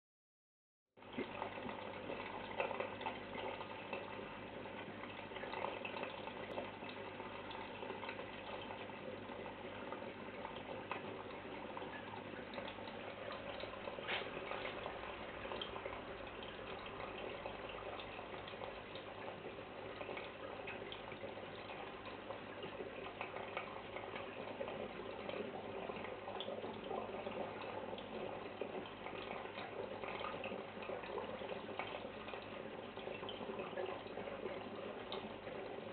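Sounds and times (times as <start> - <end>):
water rushing and crackling: 1.0 - 35.9.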